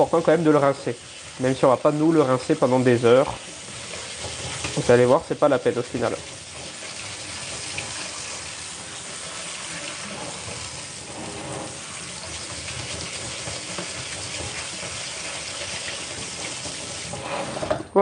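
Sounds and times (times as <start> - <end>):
tap water splashing into sink: 0.0 - 17.2.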